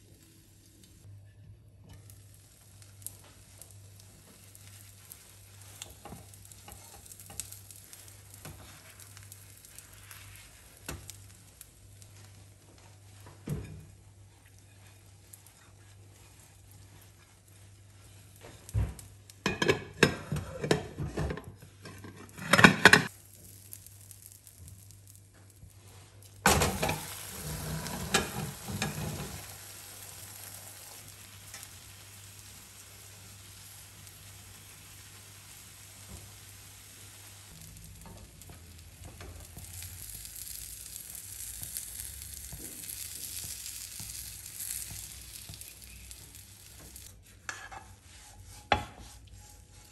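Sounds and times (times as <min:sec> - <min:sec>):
food sizzling in oil in a pan: 0:01.9 - 0:21.0, 0:21.7 - 0:49.8.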